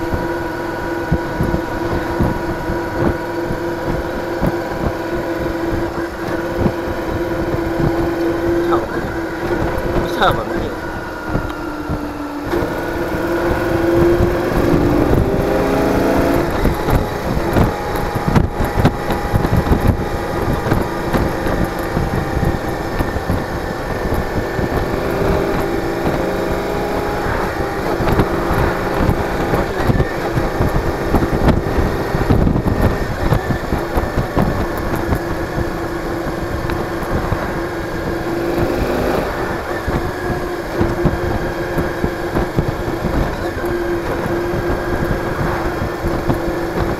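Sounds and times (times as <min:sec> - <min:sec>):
motorcycle engine running: 0:00.0 - 0:46.9
wind rumbling on microphone: 0:00.0 - 0:46.9.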